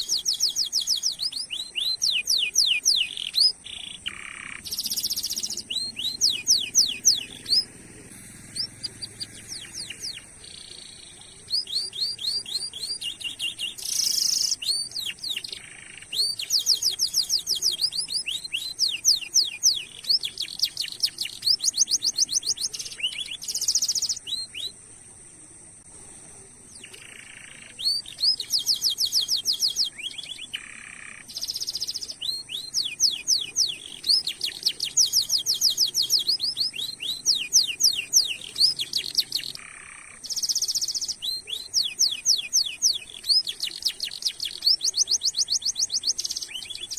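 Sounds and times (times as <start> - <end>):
canary singing trills: 0.0 - 24.9, 26.4 - 46.9.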